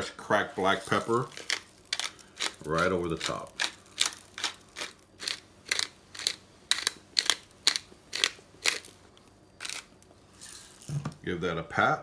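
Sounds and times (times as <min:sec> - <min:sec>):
pepper mill grinding: 0:00.5 - 0:11.1.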